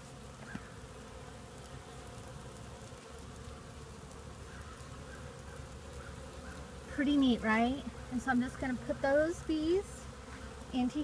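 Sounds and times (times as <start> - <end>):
bees humming: 0.0 - 11.0.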